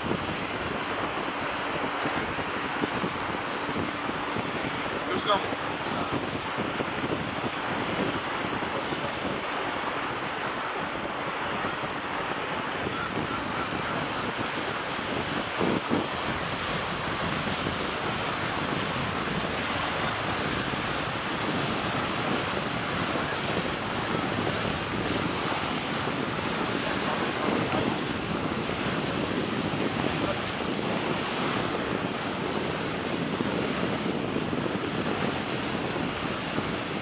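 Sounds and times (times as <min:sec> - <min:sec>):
sea waves washing: 0:00.0 - 0:37.0
wind blowing across microphone: 0:00.0 - 0:37.0.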